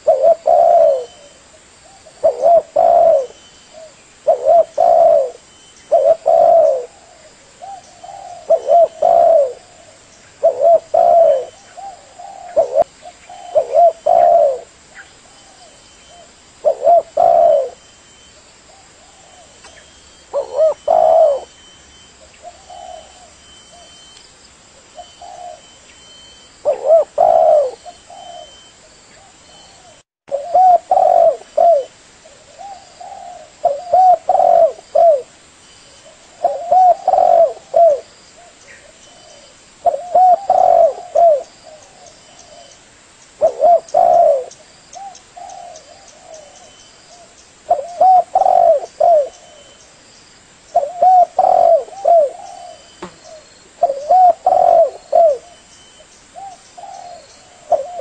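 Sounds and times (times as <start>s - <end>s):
dove cooing: 0.0s - 24.1s, 25.0s - 35.3s, 36.0s - 42.8s, 43.4s - 49.9s, 50.7s - 58.0s.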